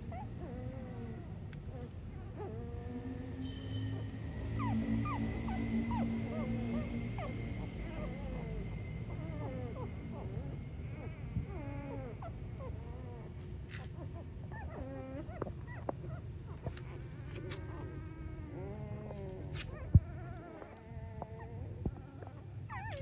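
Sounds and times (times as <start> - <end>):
puppies whimpering and squeaking: 0.0 - 3.0, 3.9 - 23.0
steady low hum: 0.0 - 23.0.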